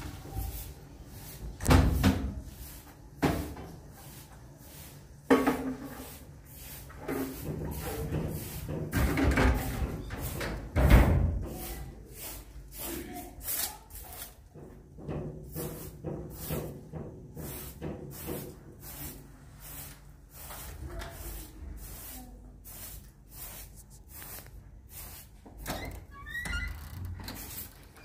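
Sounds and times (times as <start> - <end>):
broom sweeping a carpet: 0.0 - 10.5, 11.4 - 14.4, 15.4 - 25.6.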